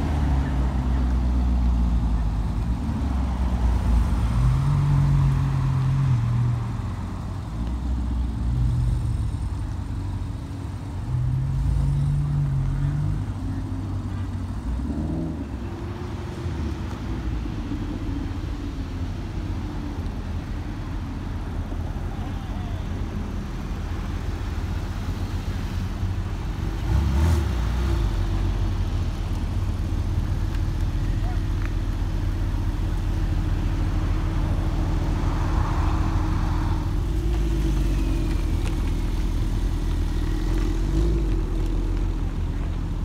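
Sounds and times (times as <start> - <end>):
sports car engines rumbling: 0.0 - 43.0.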